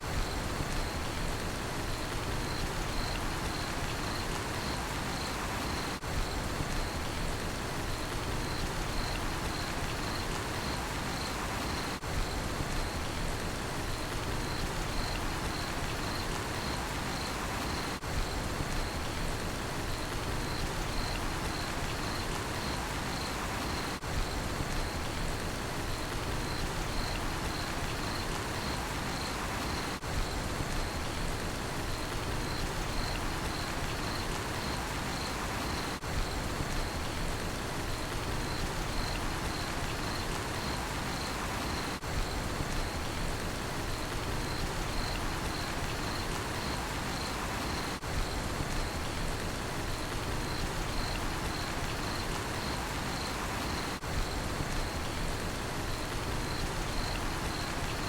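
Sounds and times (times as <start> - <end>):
steady rain falling: 0.0 - 58.0
cricket chirping: 1.9 - 7.2, 7.9 - 13.2, 13.9 - 19.2, 19.8 - 25.2, 25.9 - 31.2, 31.8 - 37.2, 37.8 - 49.3, 49.9 - 58.0.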